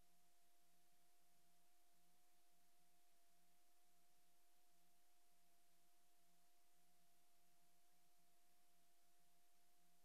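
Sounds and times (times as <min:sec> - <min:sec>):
faint steady tone: 0:00.0 - 0:10.0.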